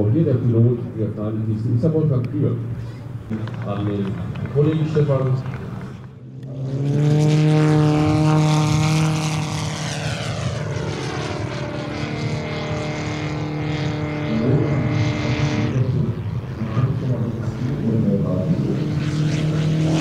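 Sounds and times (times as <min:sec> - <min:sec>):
model plane engine and propeller: 0:00.0 - 0:06.8, 0:07.5 - 0:20.0.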